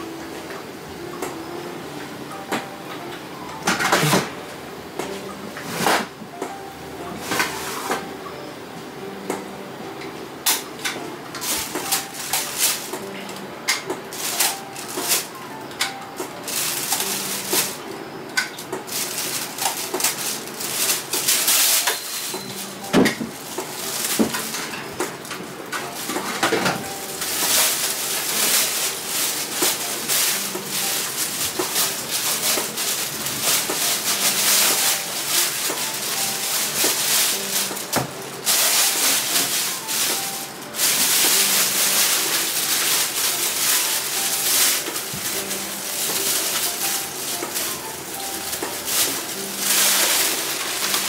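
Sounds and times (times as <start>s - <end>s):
utensils and pans clinking: 2.3s - 4.4s, 5.0s - 8.2s, 9.9s - 51.0s.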